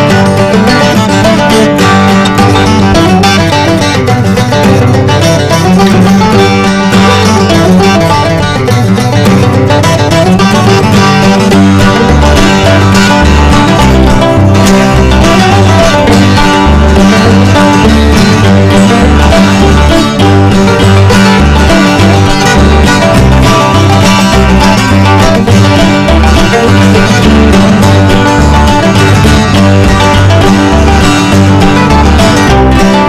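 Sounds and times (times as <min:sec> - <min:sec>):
banjo: 0:00.0 - 0:33.0
bluegrass music: 0:00.0 - 0:33.0
plucked guitar: 0:00.0 - 0:33.0
pulsing bass: 0:00.0 - 0:33.0.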